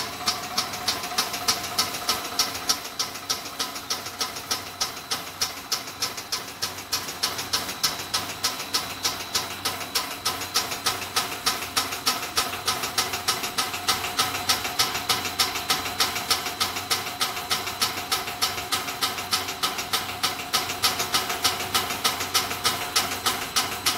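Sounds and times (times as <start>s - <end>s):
rhythmic hissing machine clatter: 0.0s - 23.9s.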